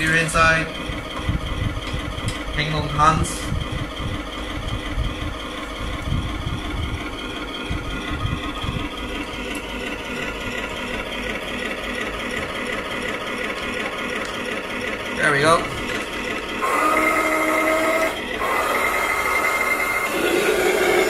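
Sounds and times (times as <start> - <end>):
recorded tank engine idling: 0.0 - 21.0.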